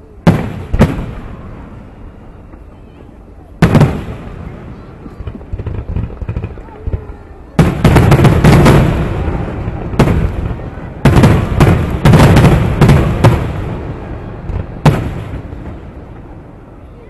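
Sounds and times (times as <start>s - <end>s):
fireworks bangs with rolling rumble: 0.0s - 17.0s.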